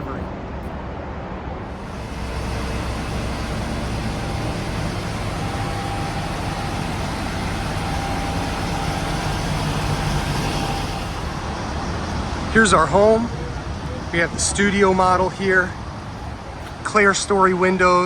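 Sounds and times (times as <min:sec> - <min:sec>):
crane engine low rumble: 0:01.5 - 0:18.0
faint steady whine: 0:01.6 - 0:18.0.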